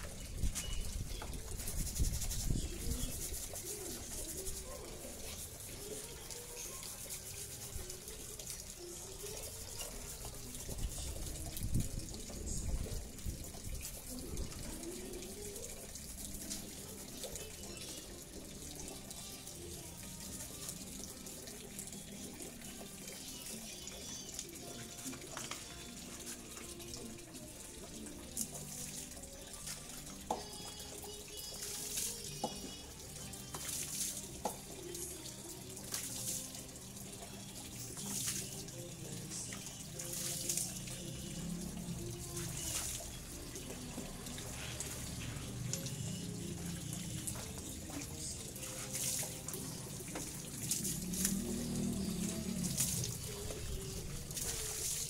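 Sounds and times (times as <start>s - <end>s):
scrubbing and splashing: 0.0s - 23.6s, 24.5s - 55.0s
hose water running into bucket: 0.0s - 55.0s.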